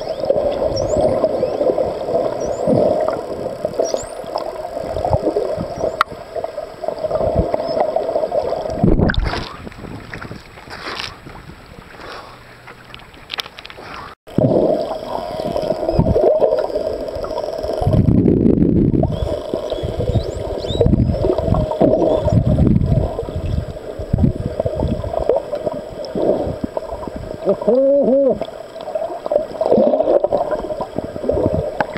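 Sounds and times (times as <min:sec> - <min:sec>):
underwater gurgling and rushing: 0:00.0 - 0:31.9.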